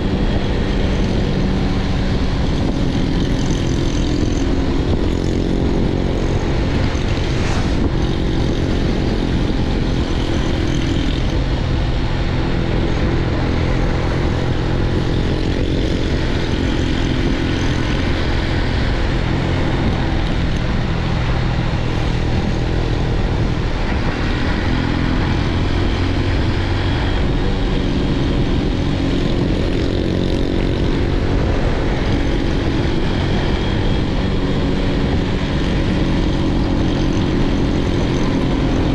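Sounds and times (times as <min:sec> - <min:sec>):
motorbike engine running: 0:00.0 - 0:38.9
wind rushing over microphone: 0:00.0 - 0:38.9.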